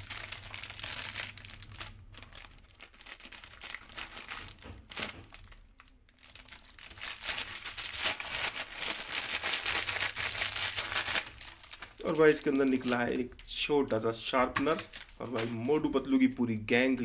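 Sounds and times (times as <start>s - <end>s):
snack packet crinkling: 0.0s - 17.0s.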